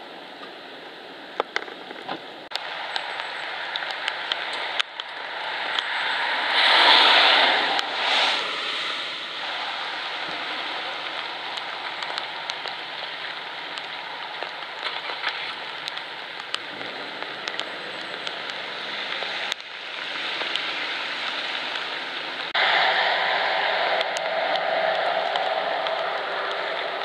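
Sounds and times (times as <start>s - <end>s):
steady rain falling: 0.0s - 27.0s
raindrops ticking close by: 0.1s - 6.5s, 9.1s - 27.0s.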